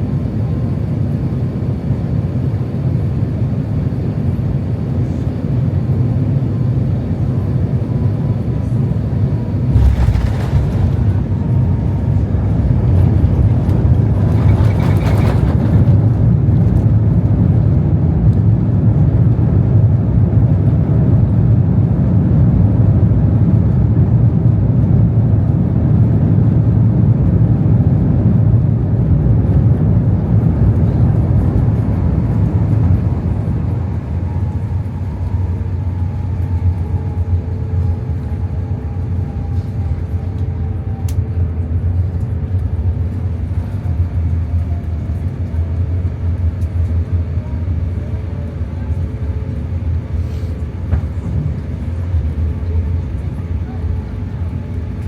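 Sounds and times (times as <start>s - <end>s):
airplane landing rollout rumble: 0.0s - 55.0s.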